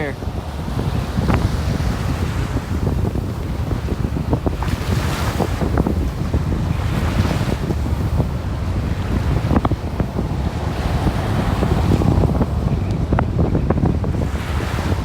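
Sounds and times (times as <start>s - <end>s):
surf washing in: 0.0s - 15.0s
wind buffeting microphone: 0.0s - 15.0s.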